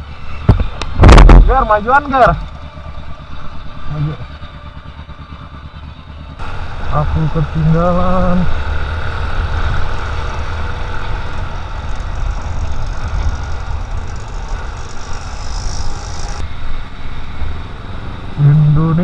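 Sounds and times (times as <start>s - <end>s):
motorcycle engine running: 0.0s - 16.5s
wind and road noise: 0.0s - 19.0s.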